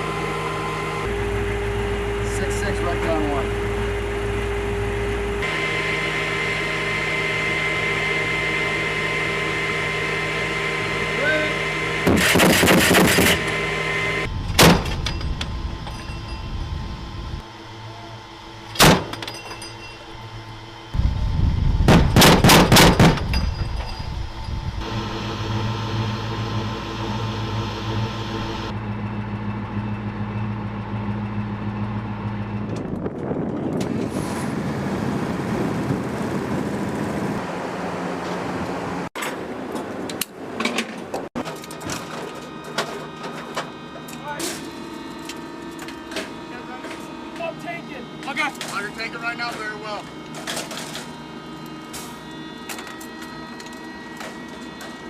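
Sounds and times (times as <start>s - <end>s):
armored vehicle engine running: 0.0s - 55.0s.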